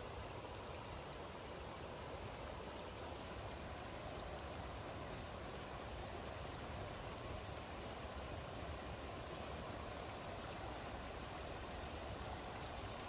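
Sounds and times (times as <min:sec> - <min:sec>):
river water pouring over weir: 0:00.0 - 0:13.0.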